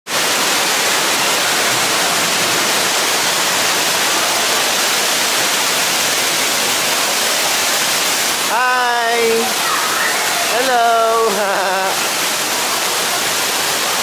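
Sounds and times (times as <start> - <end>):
waterfall splashing into a pool: 0.1 - 14.0.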